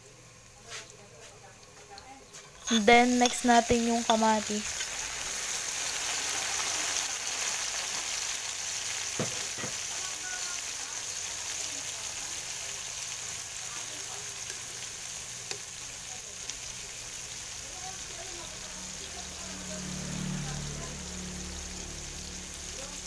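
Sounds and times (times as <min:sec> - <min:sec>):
tomatoes sizzling in oil: 0:00.6 - 0:23.0.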